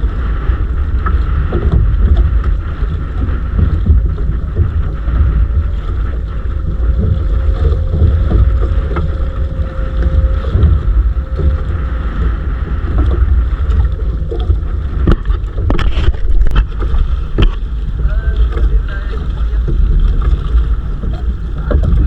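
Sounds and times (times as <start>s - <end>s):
faint hum: 0.0s - 22.0s
wind buffeting microphone: 0.0s - 22.0s.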